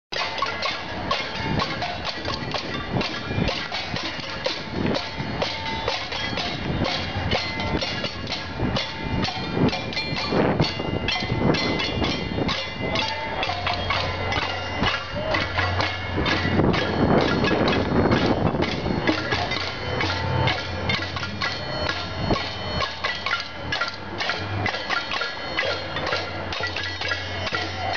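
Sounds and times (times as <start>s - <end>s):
crowd banging pots and pans: 0.1s - 27.9s.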